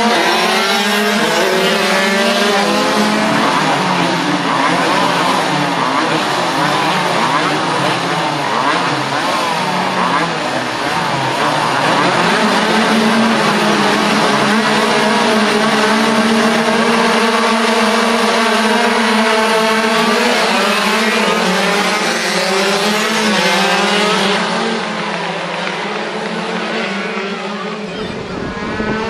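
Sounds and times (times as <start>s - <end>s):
two-stroke motorcycles racing past: 0.0s - 29.0s.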